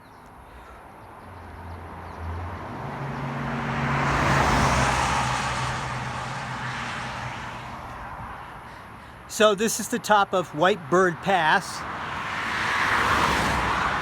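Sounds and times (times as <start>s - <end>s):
vehicle passing on highway: 1.0s - 14.0s.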